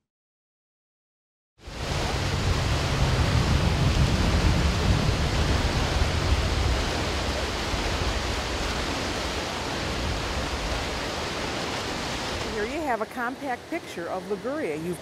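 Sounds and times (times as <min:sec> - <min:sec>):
waves breaking on rocky shore: 0:01.6 - 0:15.0.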